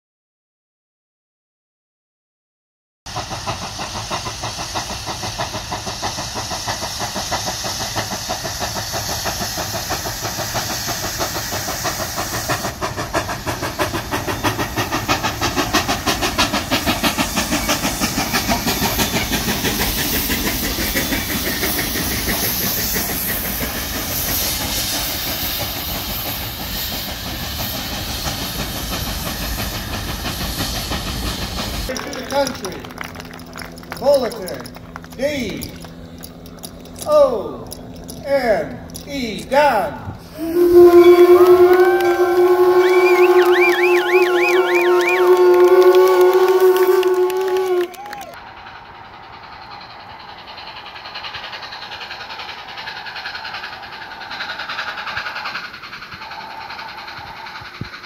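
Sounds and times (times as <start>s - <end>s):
steam hissing: 3.1s - 58.0s
steam locomotive chuffing: 3.1s - 58.0s.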